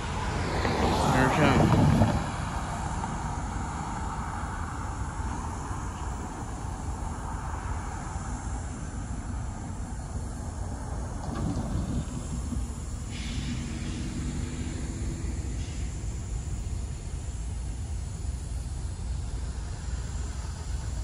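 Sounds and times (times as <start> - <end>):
car tyre and road noise: 0.0 - 21.0
steady low rumble: 1.3 - 21.0.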